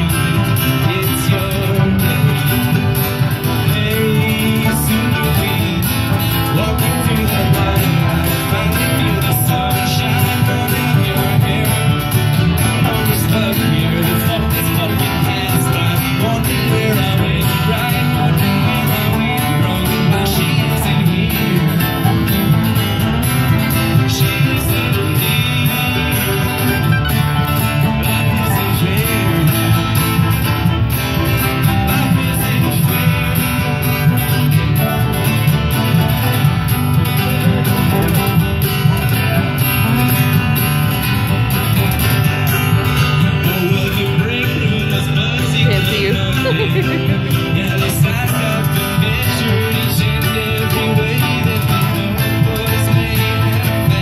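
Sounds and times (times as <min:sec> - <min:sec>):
accordion: 0:00.0 - 0:54.0
fiddle: 0:00.0 - 0:54.0
mandolin: 0:00.0 - 0:54.0
steady beat: 0:00.0 - 0:54.0
strummed guitars: 0:00.0 - 0:54.0.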